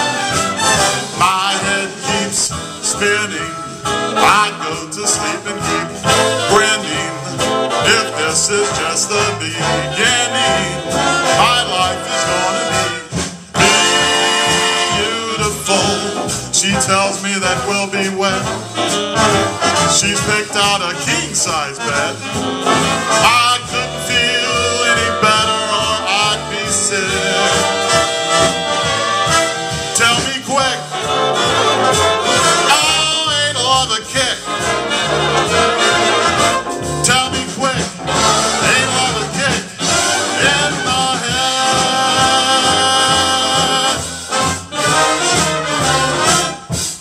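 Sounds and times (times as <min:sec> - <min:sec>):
swing band playing: 0:00.0 - 0:47.0.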